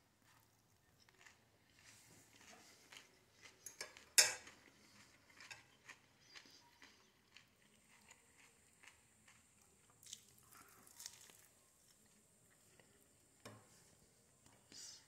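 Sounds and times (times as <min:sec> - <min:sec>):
chewing fried chicken: 0:00.2 - 0:13.1.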